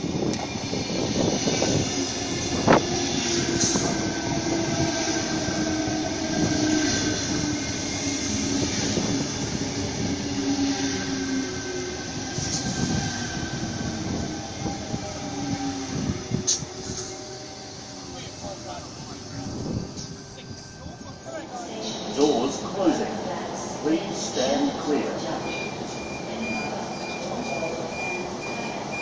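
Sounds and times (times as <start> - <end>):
train wheels rumbling on rail: 0.0 - 23.3.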